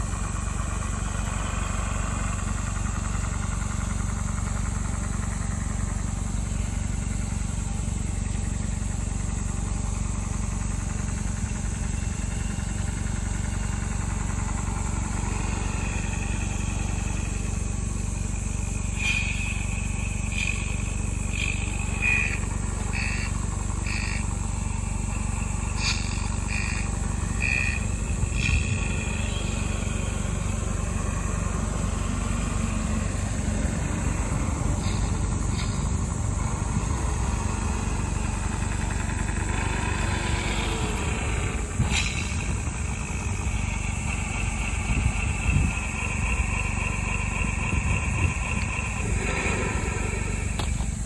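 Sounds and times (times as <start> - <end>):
electric motor and gearbox whine: 0.0 - 51.0
steady low rumble: 0.0 - 51.0.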